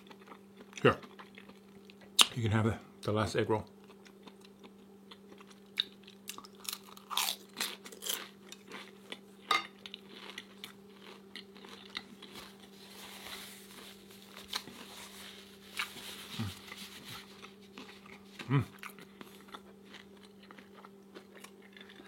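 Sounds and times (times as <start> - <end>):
crunching and chewing food: 0.0 - 2.4, 3.6 - 22.0
steady low hum: 0.0 - 22.0.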